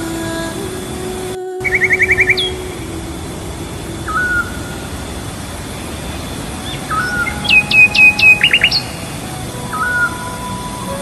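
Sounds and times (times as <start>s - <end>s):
steady rushing hiss: 0.0s - 11.0s
birds chirping and trilling: 1.6s - 11.0s.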